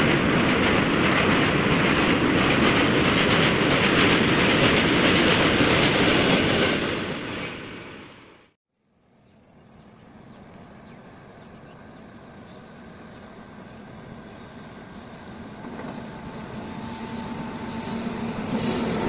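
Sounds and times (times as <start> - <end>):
freight train rumbling: 0.0 - 8.6, 9.6 - 19.0.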